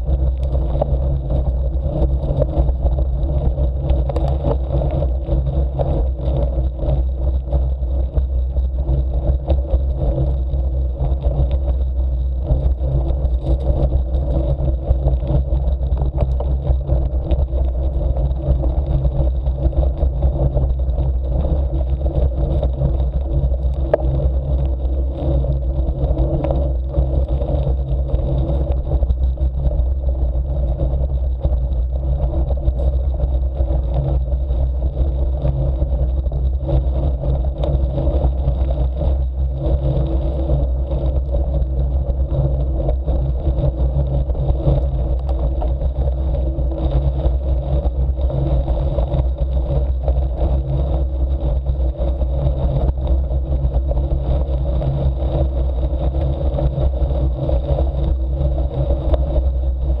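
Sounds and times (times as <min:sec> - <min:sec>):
wind on microphone: 0:00.0 - 1:00.0.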